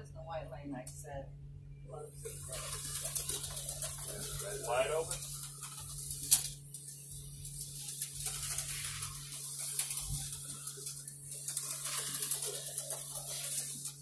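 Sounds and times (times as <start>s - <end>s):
steady low hum: 0.0s - 14.0s
small electric motor whirring: 2.2s - 14.0s.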